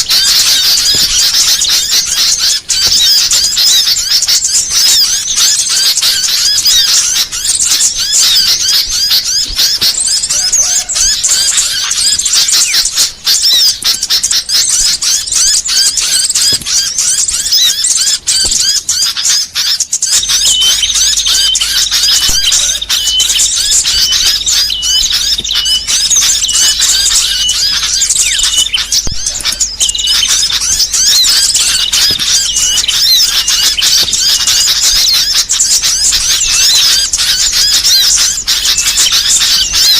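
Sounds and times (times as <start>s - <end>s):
songbirds twittering and chirping: 0.0s - 39.9s.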